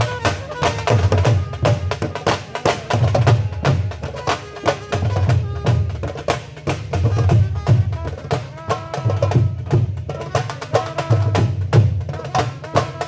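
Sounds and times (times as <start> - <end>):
fast dhol drumming: 0.0 - 13.0.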